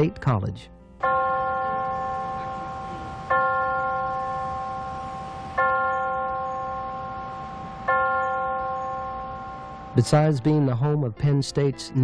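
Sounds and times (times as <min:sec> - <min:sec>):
large bell tolling: 0:01.0 - 0:11.2.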